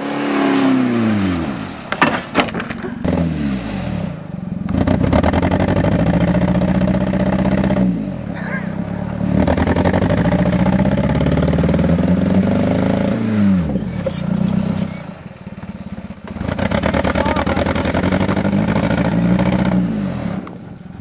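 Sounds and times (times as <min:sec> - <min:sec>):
car engine revving hard: 0:00.0 - 0:01.9, 0:03.0 - 0:15.2, 0:16.0 - 0:20.6.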